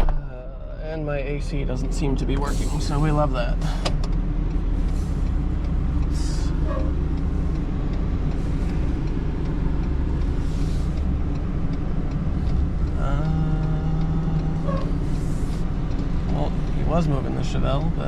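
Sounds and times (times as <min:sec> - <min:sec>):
vehicle engine idling: 0:00.1 - 0:18.0.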